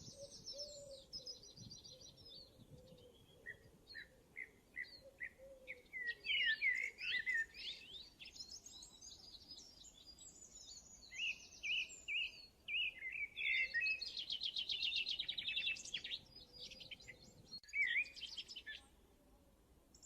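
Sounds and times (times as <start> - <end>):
songbird singing: 0.0 - 19.2.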